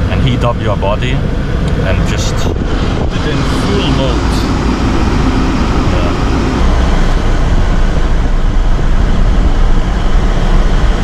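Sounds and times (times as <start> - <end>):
car heater fan blowing air: 0.0 - 11.0.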